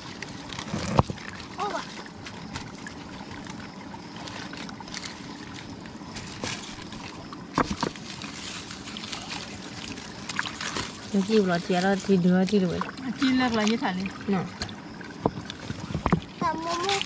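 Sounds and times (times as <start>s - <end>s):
water trickling and sloshing: 0.0s - 17.0s.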